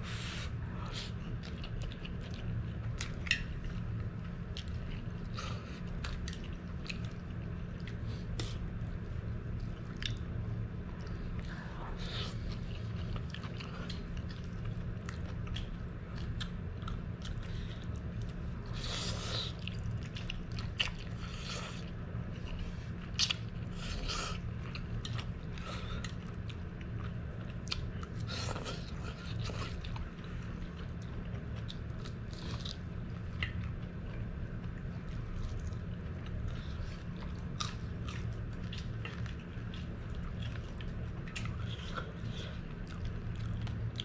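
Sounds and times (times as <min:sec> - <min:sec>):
steady low hum: 0:00.0 - 0:44.0
chewing with wet clicks: 0:00.8 - 0:44.0.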